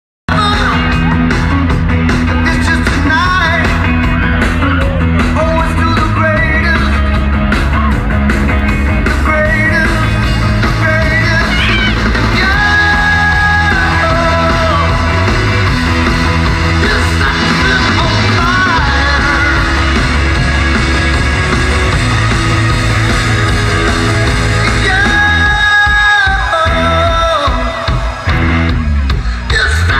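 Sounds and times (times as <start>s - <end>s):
loud rock music with singer: 0.3s - 29.9s
steady bass line: 0.3s - 29.9s.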